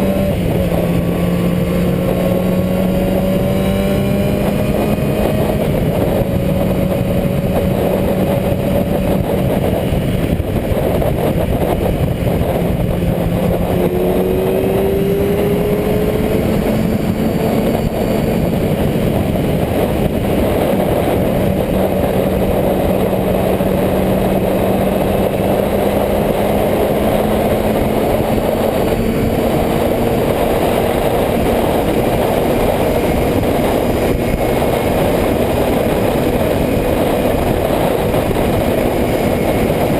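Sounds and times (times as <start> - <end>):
motorcycle engine running: 0.0 - 39.9
second motorcycle engine rising: 0.0 - 39.9.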